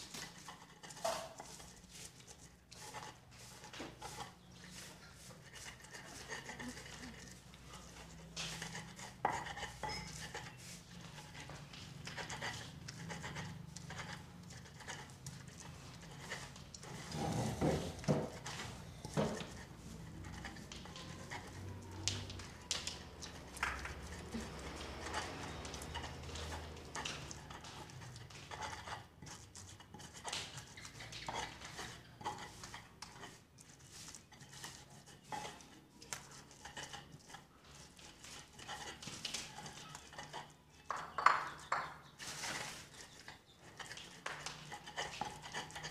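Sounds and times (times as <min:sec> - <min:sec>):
stone pestle grinding in mortar: 0:00.0 - 0:45.9.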